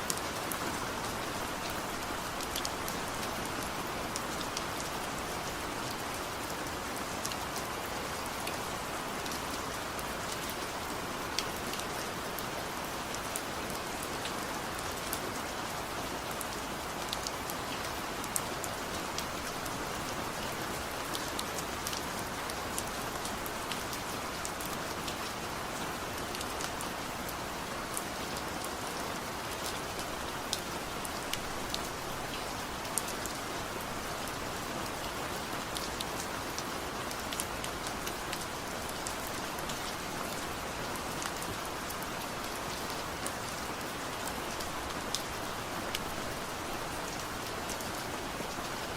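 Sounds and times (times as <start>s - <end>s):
gentle rain falling: 0.0s - 48.9s.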